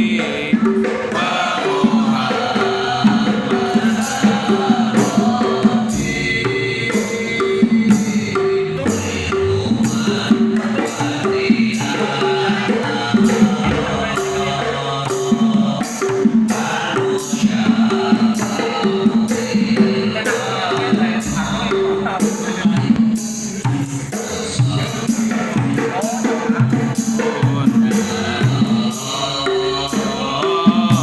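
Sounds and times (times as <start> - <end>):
person singing: 0.0 - 23.2, 24.1 - 31.0
hand drums and jingles: 3.2 - 29.2.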